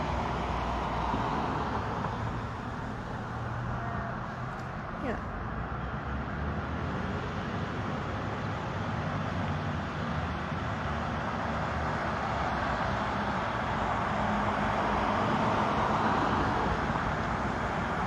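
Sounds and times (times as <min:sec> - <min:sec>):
low engine hum: 0:00.0 - 0:18.0
road traffic noise: 0:00.0 - 0:18.0.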